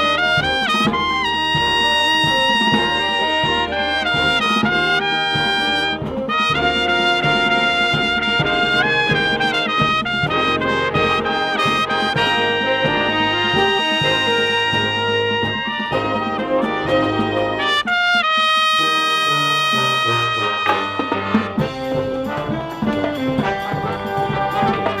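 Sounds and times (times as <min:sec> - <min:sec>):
brass marching band playing: 0:00.0 - 0:25.0.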